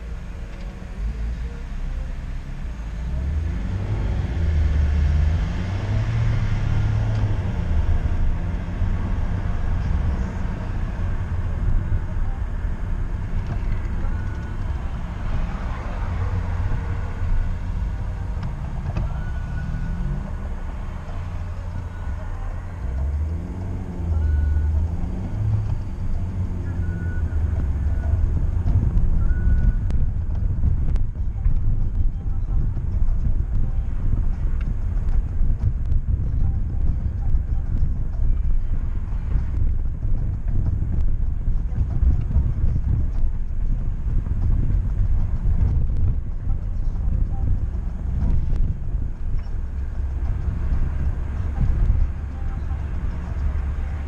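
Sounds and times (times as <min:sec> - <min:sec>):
car engine accelerating: 0:00.0 - 0:54.0
road noise: 0:00.0 - 0:54.0.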